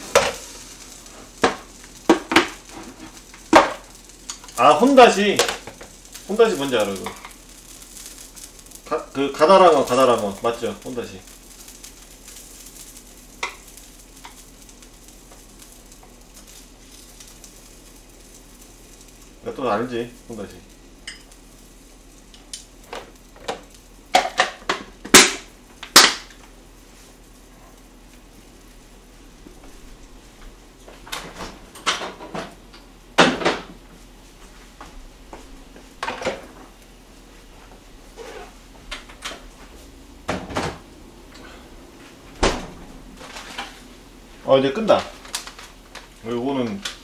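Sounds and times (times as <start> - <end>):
food sizzling: 0.0 - 47.0.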